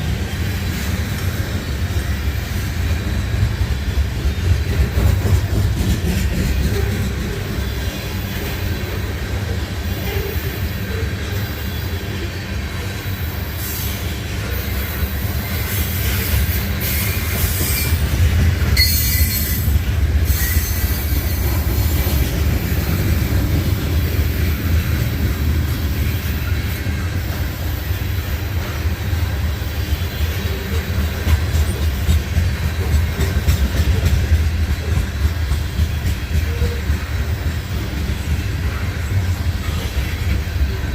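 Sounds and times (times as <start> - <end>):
railcars rumbling on steel wheels: 0.0 - 40.9
train wheels squealing: 0.6 - 40.9.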